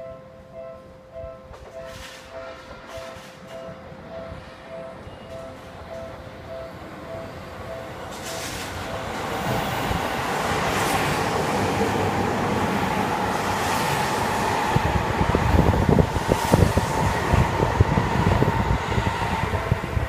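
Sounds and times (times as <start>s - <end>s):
electric train whine: 0.0s - 20.0s.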